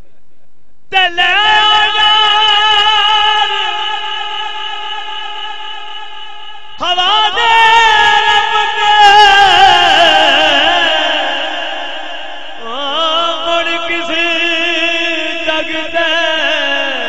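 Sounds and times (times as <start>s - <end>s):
man singing into a microphone: 0.9s - 17.0s.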